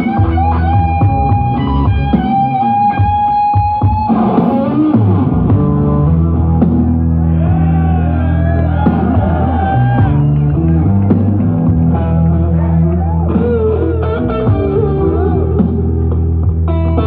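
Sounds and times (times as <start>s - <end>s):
electric guitar playing bending notes: 0.0s - 17.0s.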